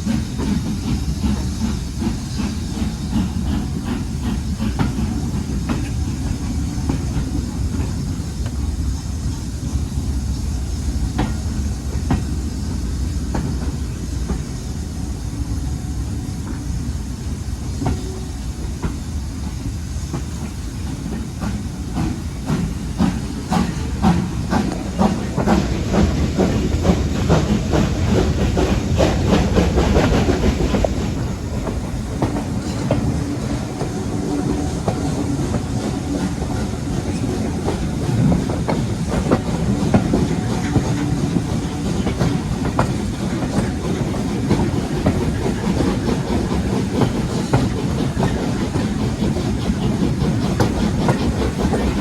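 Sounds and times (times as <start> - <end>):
steam train rumbling past: 0.0 - 52.0.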